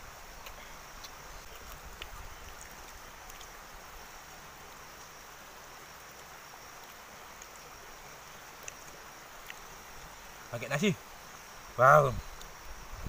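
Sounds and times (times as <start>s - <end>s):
faint steady hiss: 0.0s - 13.0s
high insect drone: 0.0s - 13.0s.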